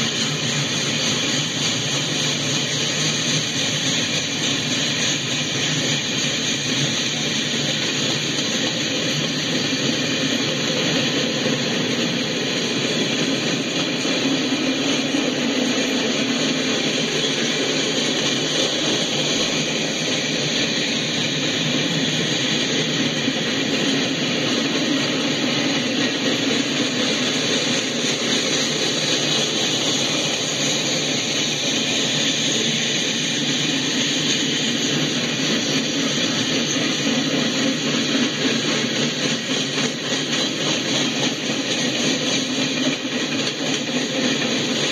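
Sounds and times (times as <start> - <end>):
steel wheels rolling on rail: 0.0 - 44.9.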